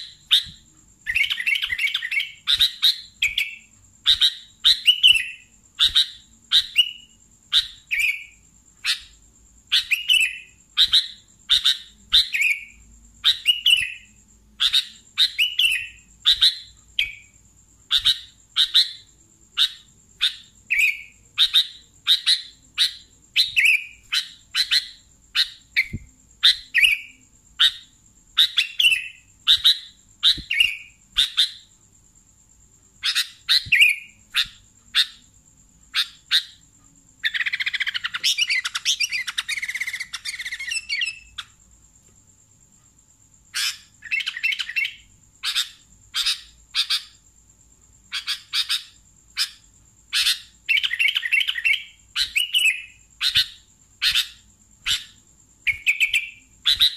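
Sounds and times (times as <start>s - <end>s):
bird chirping and chattering: 0.0s - 31.7s, 33.0s - 35.3s, 35.9s - 41.6s, 43.5s - 47.2s, 48.1s - 56.9s.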